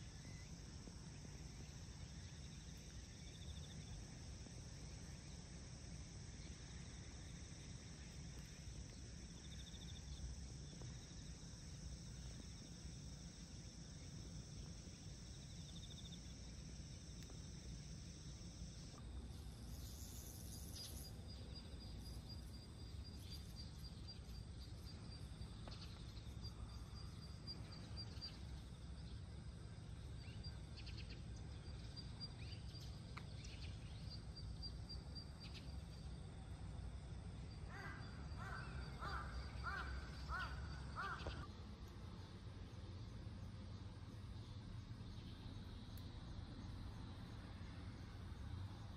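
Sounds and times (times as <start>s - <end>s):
insects shrilling drone: 0.0s - 48.9s.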